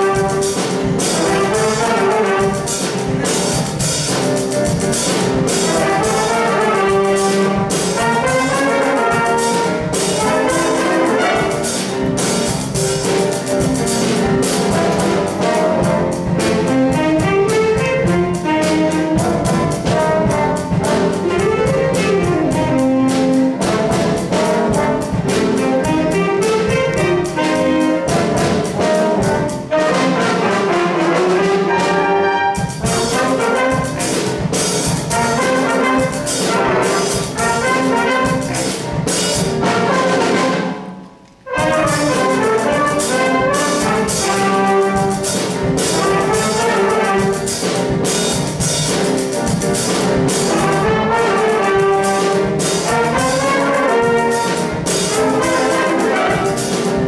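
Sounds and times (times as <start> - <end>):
jazz big band playing: 0.0 - 57.0.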